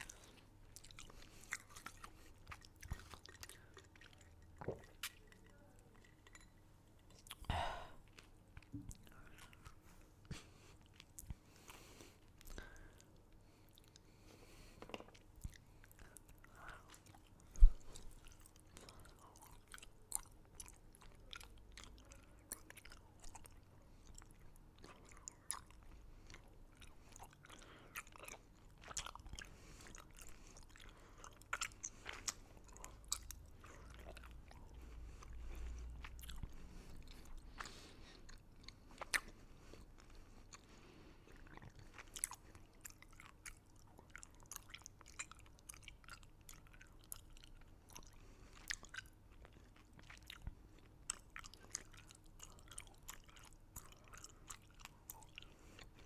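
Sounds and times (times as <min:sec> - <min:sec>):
chewing crunchy candy: 0:00.0 - 0:56.0.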